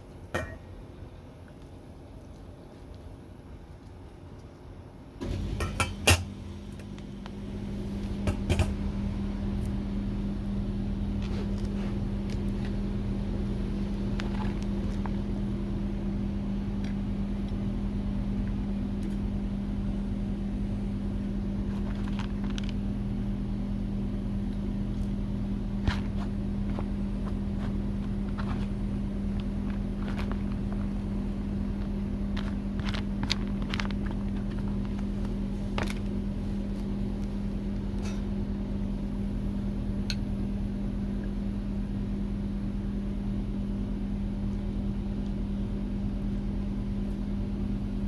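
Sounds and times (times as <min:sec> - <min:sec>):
gas burner humming: 0:00.4 - 0:00.9, 0:05.2 - 0:48.0.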